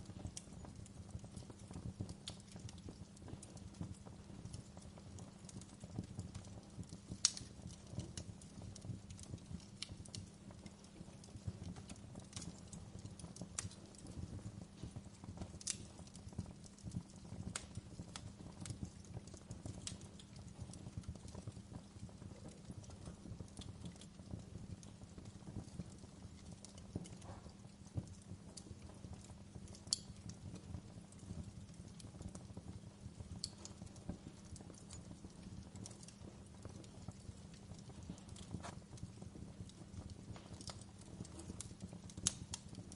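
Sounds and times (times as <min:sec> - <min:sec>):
low fire rumble: 0:00.0 - 0:42.9
wood fire crackling: 0:00.0 - 0:42.9.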